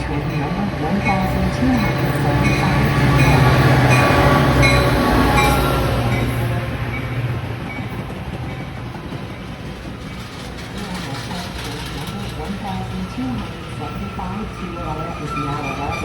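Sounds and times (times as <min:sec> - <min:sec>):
train passing: 0:00.0 - 0:16.0.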